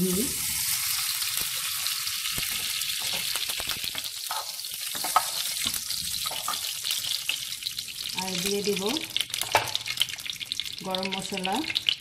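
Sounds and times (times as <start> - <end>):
ghee sizzling in frying pan: 0.0 - 12.0.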